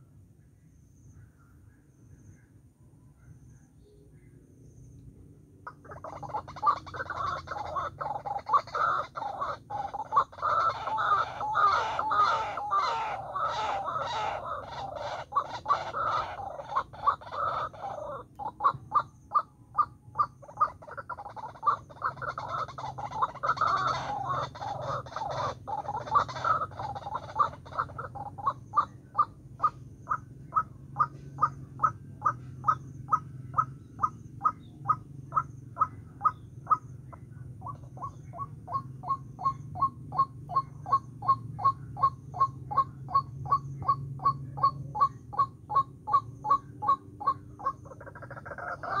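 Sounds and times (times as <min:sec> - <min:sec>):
waterhen croaking calls: 0:05.7 - 0:49.0.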